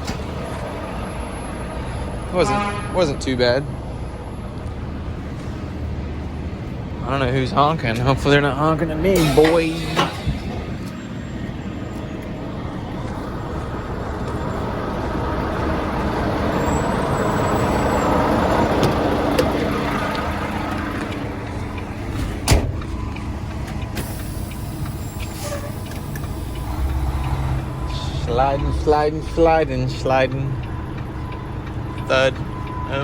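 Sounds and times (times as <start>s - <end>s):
truck diesel engine running: 0.0s - 33.0s.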